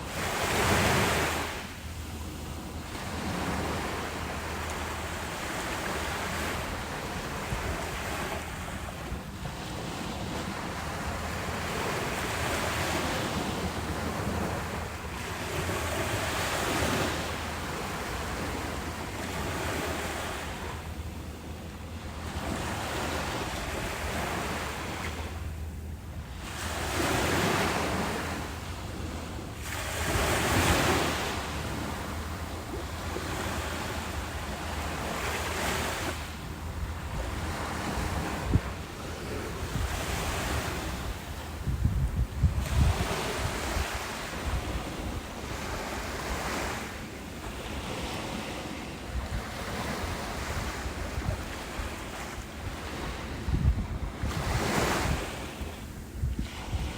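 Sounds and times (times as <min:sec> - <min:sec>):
ocean waves breaking: 0:00.0 - 0:56.9
wind rumble on microphone: 0:00.0 - 0:56.9.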